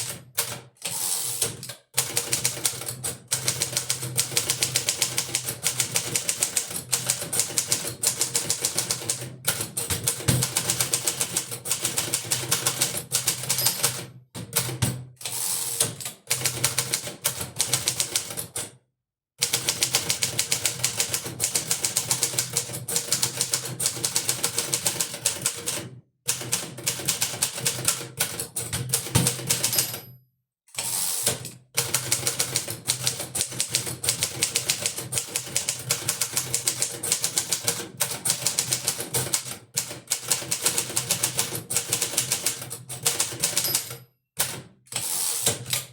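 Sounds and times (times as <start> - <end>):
manual typewriter typing: 0.0 - 18.6, 19.4 - 30.0, 30.8 - 45.9.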